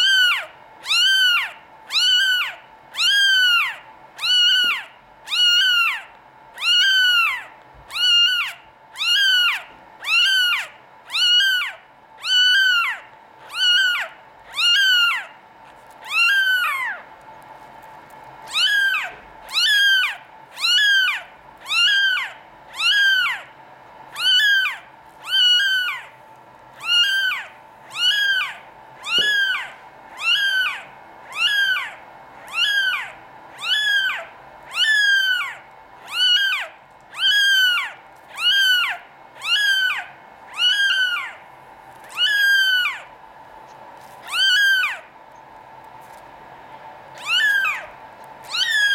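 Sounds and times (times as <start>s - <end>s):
kitten mewing: 0.0s - 15.4s, 16.0s - 17.0s, 18.5s - 23.5s, 24.1s - 26.2s, 26.8s - 41.4s, 42.1s - 43.1s, 44.2s - 45.0s, 47.1s - 47.9s, 48.5s - 48.9s.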